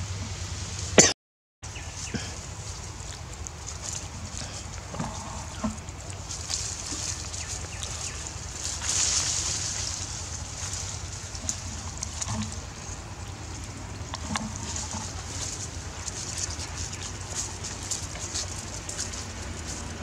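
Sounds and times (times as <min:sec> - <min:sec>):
wind rumbling on microphone: 0:01.7 - 0:20.0.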